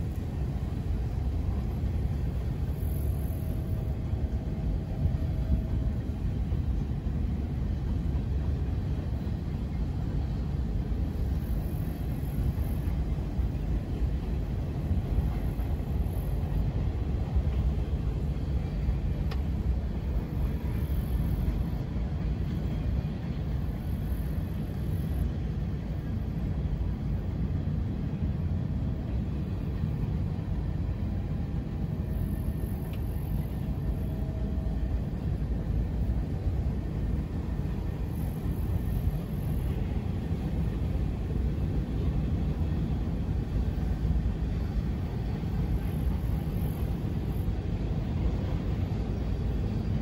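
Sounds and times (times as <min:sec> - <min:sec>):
train rumbling by: 0:00.0 - 0:50.0.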